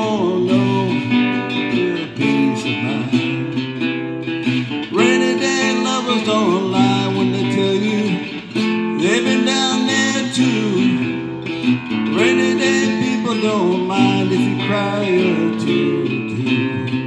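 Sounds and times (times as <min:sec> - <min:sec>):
acoustic guitar strumming: 0:00.0 - 0:17.0
person singing: 0:00.0 - 0:17.0.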